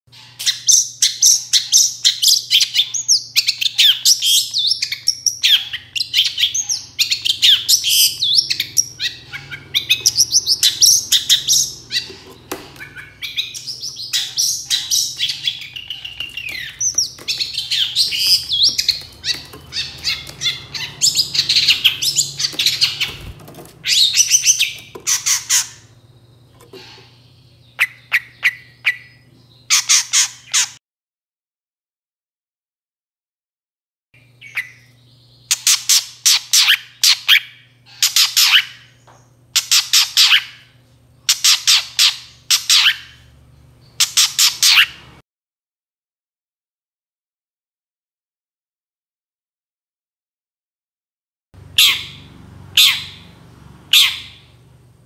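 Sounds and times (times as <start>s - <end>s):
bird singing chattering song: 0.2s - 30.8s, 34.2s - 45.2s, 51.6s - 54.7s.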